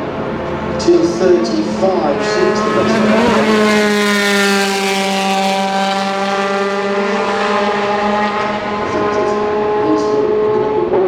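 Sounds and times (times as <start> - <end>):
race car engine at steady revs: 0.0 - 11.0.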